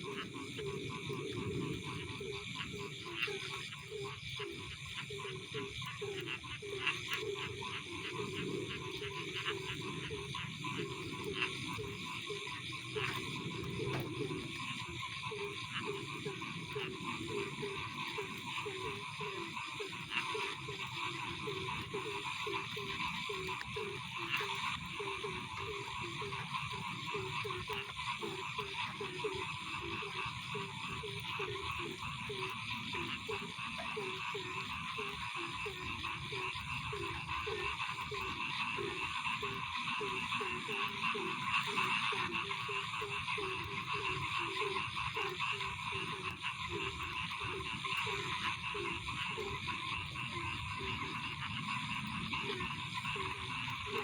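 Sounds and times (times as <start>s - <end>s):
frogs croaking: 0.0s - 54.0s.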